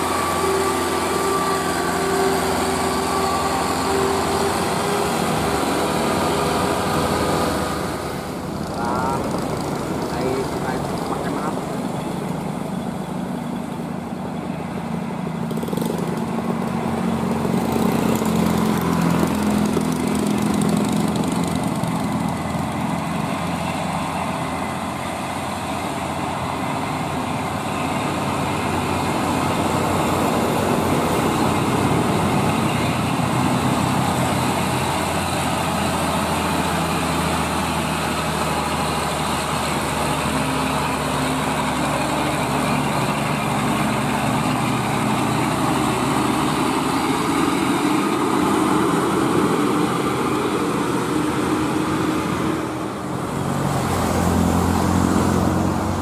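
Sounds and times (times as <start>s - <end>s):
diesel truck engine labouring: 0.0s - 56.0s.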